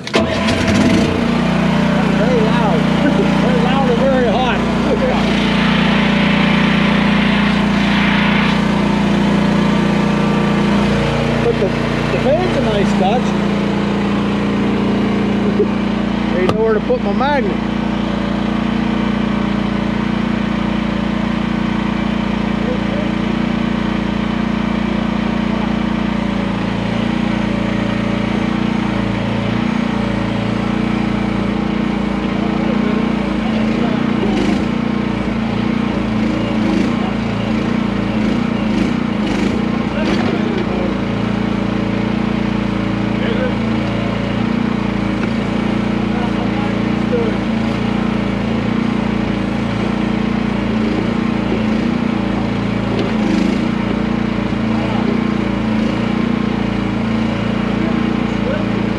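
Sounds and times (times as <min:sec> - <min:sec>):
excavator engine running: 0:00.0 - 0:58.9.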